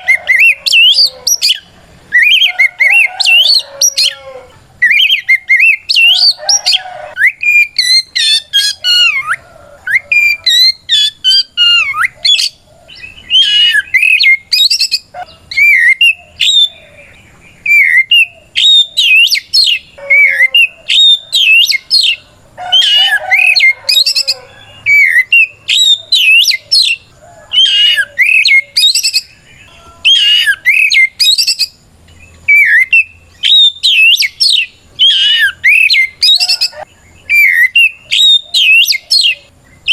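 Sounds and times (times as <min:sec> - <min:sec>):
bird singing whistled phrases: 0:00.0 - 0:04.2, 0:04.8 - 0:27.0, 0:27.6 - 0:31.8, 0:32.5 - 0:39.9.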